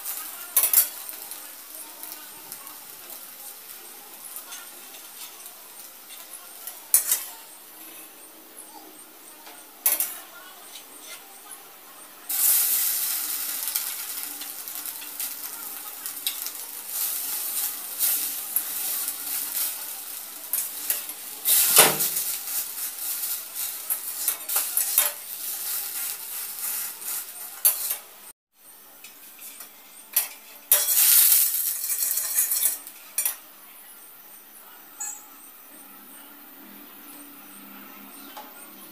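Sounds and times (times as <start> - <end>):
bread frying in oil: 0.0 - 33.6.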